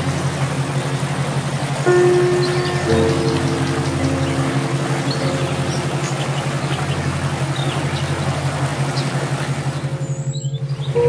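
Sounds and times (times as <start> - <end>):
held music chord: 0.0 - 11.0
low pulsing drone: 0.0 - 11.0
river rapids rushing over rocks: 0.0 - 11.0
bird chirps: 1.9 - 11.0.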